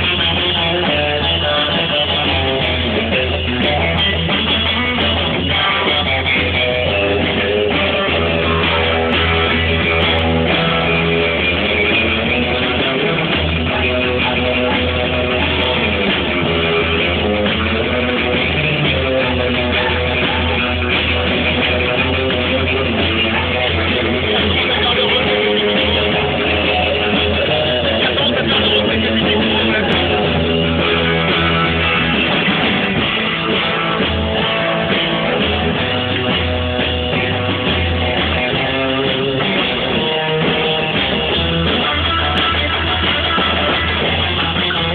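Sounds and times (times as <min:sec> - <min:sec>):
bass line: 0:00.0 - 0:44.9
electric guitar: 0:00.0 - 0:44.9
rock and roll band playing live: 0:00.0 - 0:44.9.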